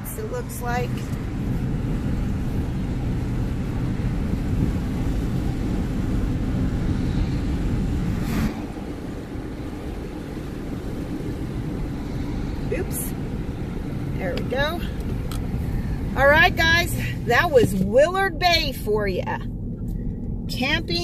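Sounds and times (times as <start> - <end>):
truck passing whoosh: 0.0 - 17.7
car engine and tyres rumbling: 0.0 - 21.0.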